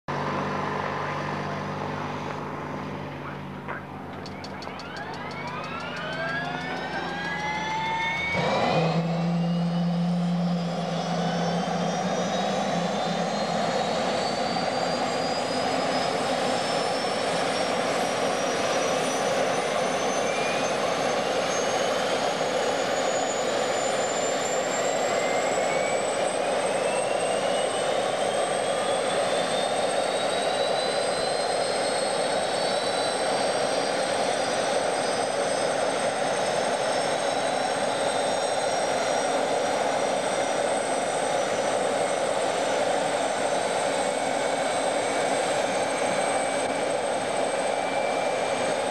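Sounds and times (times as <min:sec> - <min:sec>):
helicopter turbine whine rising: 0:00.1 - 0:48.9.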